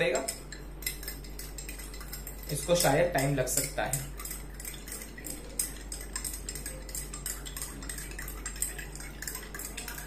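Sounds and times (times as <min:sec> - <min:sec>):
metal spoon clinking in a glass: 0:00.0 - 0:10.0.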